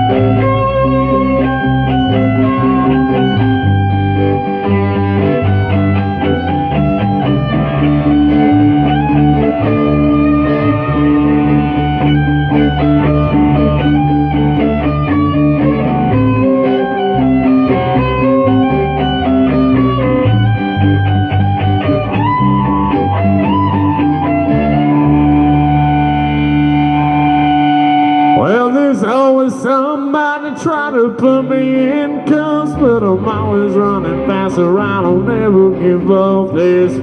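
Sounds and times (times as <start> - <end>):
sustained chords and bass: 0.0 - 28.9, 31.2 - 37.0
electric guitar melodic lead: 0.0 - 37.0.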